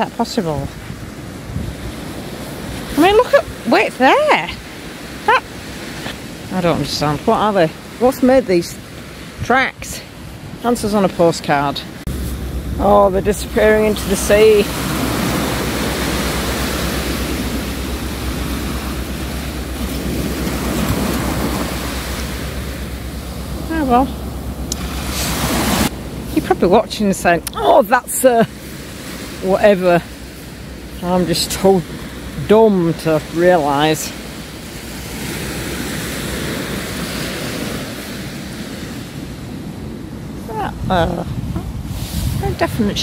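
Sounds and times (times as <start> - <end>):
small waves washing on sand: 0.0 - 40.6, 41.2 - 43.0
wind rumbling on microphone: 0.0 - 43.0.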